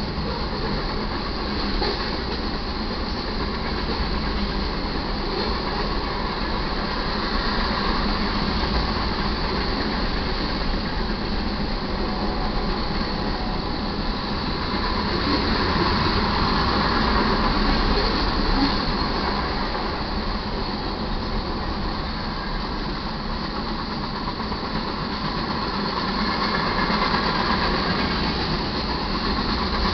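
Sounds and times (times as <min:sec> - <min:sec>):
freight train wheels rumbling on rails: 0:00.0 - 0:29.9.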